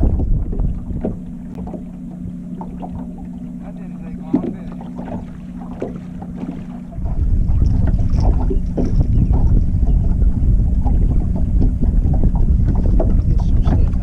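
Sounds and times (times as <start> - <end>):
boat motor hum: 0.0 - 14.0
wind buffeting microphone: 0.0 - 14.0.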